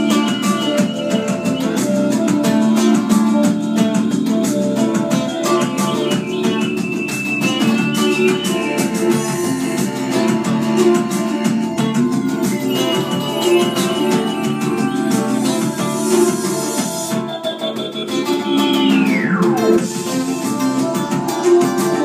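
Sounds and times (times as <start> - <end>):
acoustic guitar strummed fast: 0.0 - 22.0.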